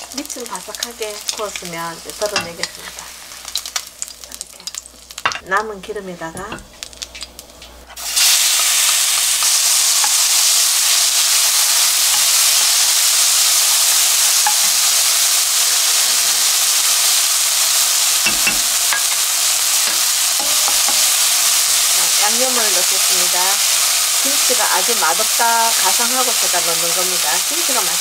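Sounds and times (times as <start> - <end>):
spatula stir-frying in pan: 0.0 - 5.4, 6.7 - 28.0
food sizzling in hot oil: 0.0 - 5.6, 6.2 - 28.0.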